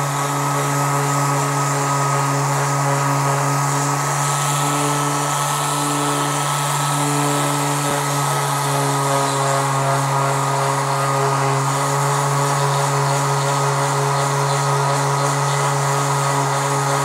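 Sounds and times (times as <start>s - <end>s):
palm sander sanding plastic: 0.0s - 17.0s.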